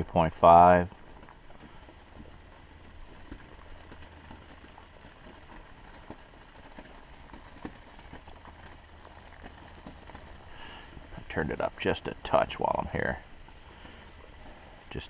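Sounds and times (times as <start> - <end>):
syrup boiling in a pot: 0.1 - 15.0.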